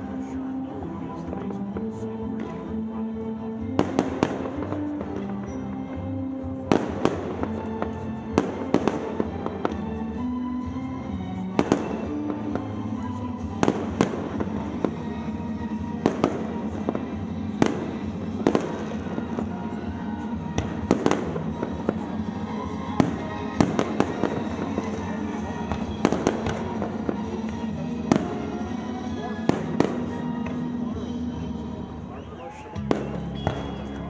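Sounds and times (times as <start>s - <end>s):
steady music: 0.0s - 34.0s
fireworks bursting: 3.7s - 10.4s, 11.5s - 34.0s.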